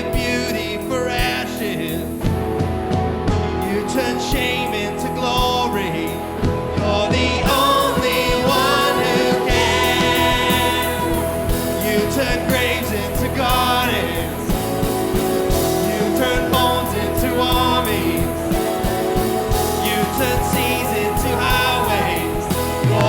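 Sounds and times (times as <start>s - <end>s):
worship band playing: 0.0s - 23.0s
person singing: 3.4s - 23.0s.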